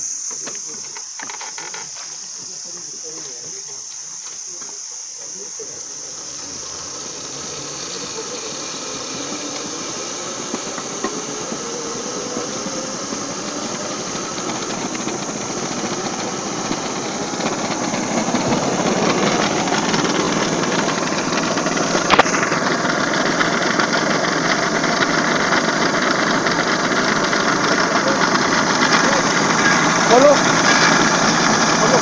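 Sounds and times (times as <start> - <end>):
cable winch running: 0.0 - 32.0
faint rising whine: 5.0 - 32.0.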